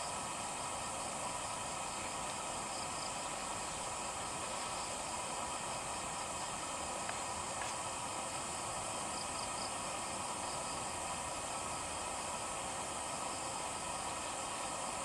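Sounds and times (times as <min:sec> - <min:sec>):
insects calling in forest: 0:00.0 - 0:15.0.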